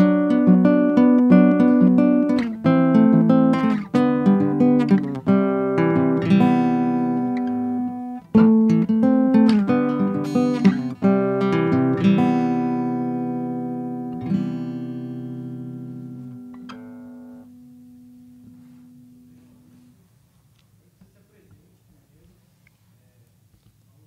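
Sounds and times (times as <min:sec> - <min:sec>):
acoustic guitar chords: 0:00.0 - 0:20.2.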